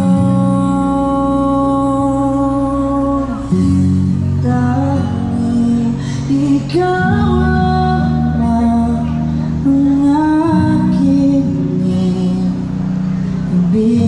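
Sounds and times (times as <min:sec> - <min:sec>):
man singing into microphone: 0:00.0 - 0:12.7, 0:13.5 - 0:14.0.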